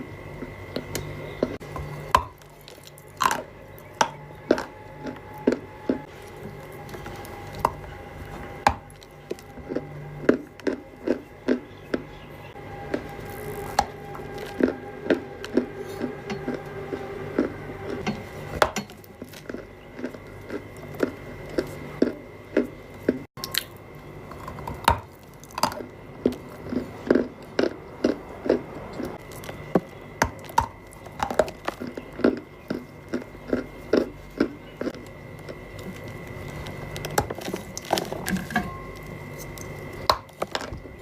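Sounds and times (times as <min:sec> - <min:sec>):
crunching and chewing clay: 0:00.0 - 0:41.0.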